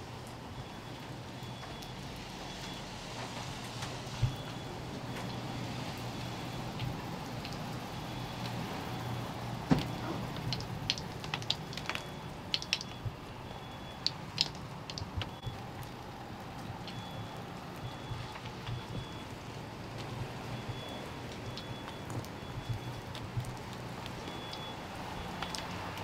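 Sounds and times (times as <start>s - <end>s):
rain: 0.0s - 26.0s
sharp drip ticks: 0.2s - 26.0s.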